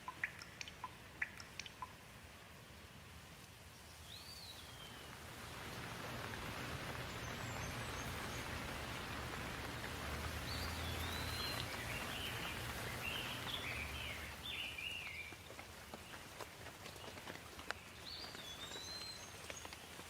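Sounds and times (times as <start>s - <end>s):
songbird singing: 0.0s - 2.0s, 3.7s - 20.0s
raindrops ticking: 0.0s - 2.4s, 3.4s - 20.0s
steady rain: 0.0s - 20.0s.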